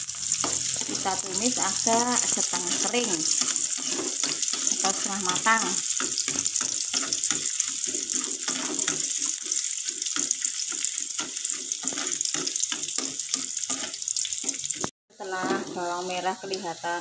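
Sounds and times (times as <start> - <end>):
metal ladle scraping wok: 0.0 - 16.6
shallots sizzling in hot oil: 0.0 - 17.0.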